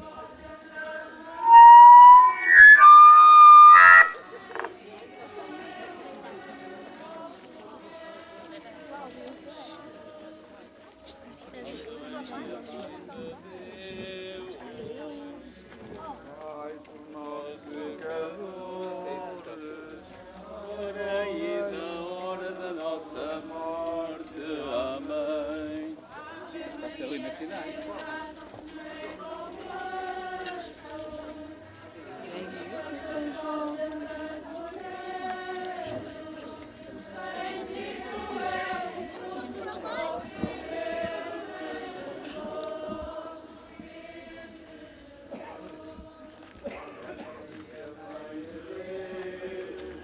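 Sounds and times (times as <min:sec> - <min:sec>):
voices singing slow chant: 0:00.0 - 0:11.0, 0:16.7 - 0:50.0.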